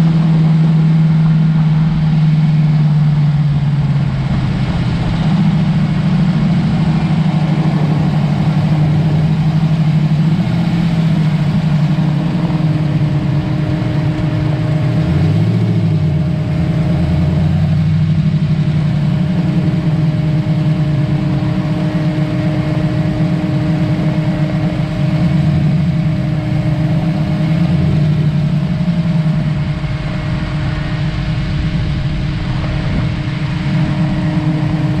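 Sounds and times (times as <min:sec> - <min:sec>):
car engine running at low revs: 0:00.0 - 0:35.0
road and wind noise: 0:00.0 - 0:35.0.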